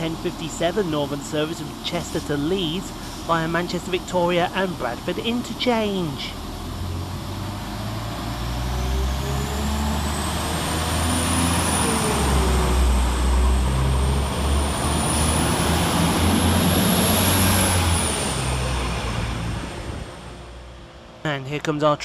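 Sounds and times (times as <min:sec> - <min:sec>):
train diesel engines rumbling: 0:00.0 - 0:22.0.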